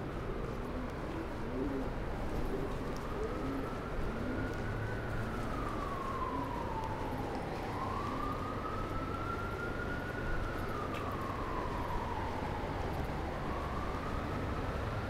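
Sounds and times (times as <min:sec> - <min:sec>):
distant siren wailing: 0:00.0 - 0:15.0.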